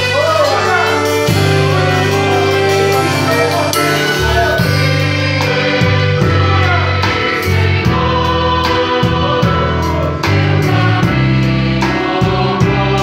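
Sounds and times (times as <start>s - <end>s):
bass line: 0.0s - 13.0s
drum and cymbal hits: 0.0s - 13.0s
people singing worship music: 0.0s - 13.0s.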